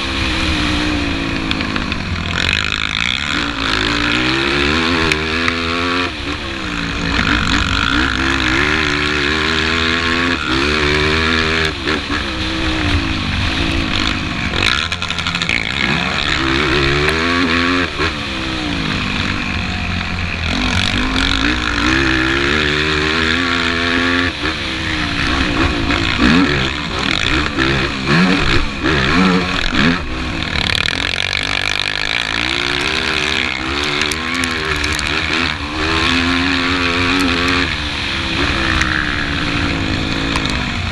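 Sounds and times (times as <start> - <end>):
quad engine revving: 0.0 - 40.9.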